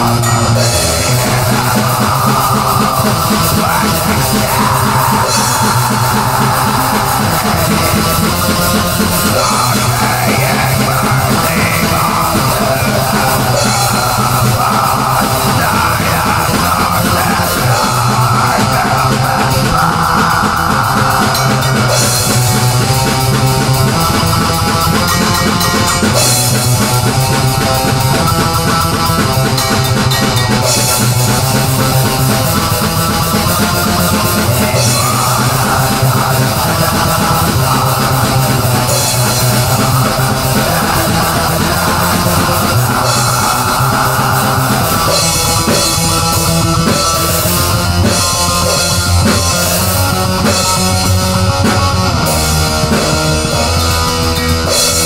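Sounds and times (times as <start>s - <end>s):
heavy rock music: 0.0s - 55.0s.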